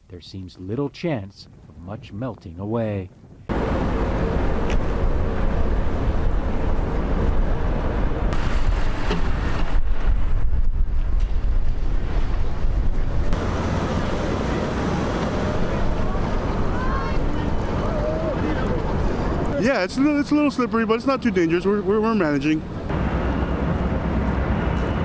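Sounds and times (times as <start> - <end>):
wind buffeting microphone: 0.8 - 23.1.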